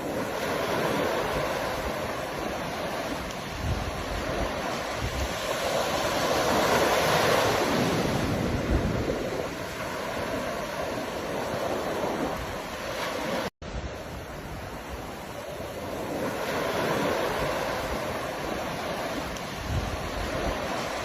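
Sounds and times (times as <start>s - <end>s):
ocean waves washing: 0.0s - 21.0s.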